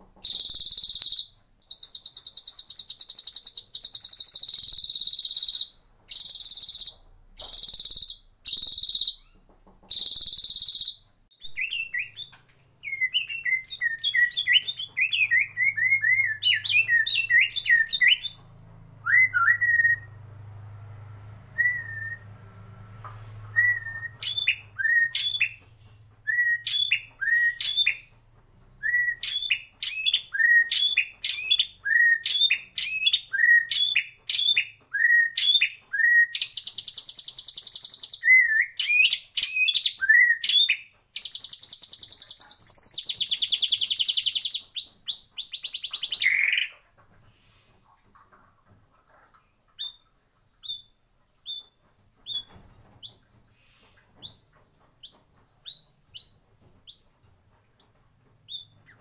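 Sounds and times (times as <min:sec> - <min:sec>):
bird singing whistled notes: 0:00.2 - 0:18.4, 0:19.0 - 0:20.2, 0:21.6 - 0:22.3, 0:23.5 - 0:28.2, 0:28.8 - 0:46.7, 0:49.7 - 0:50.0, 0:50.6 - 0:53.3, 0:54.2 - 0:57.2, 0:57.8 - 0:58.9.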